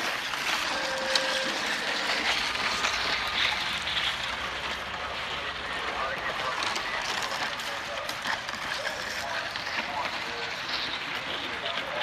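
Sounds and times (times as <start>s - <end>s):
boards scraping on wet asphalt: 0.0s - 12.0s.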